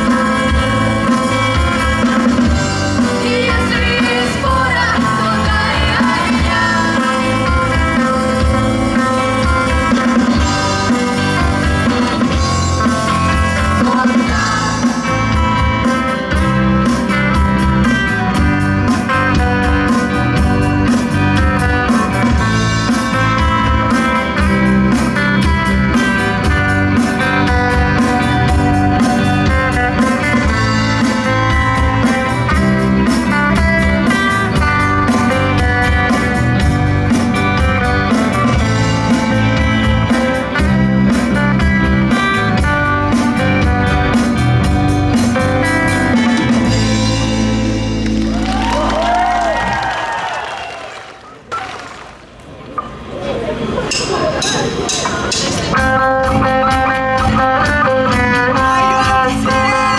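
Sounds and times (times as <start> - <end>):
live rock band playing: 0.0 - 50.6, 54.0 - 59.9.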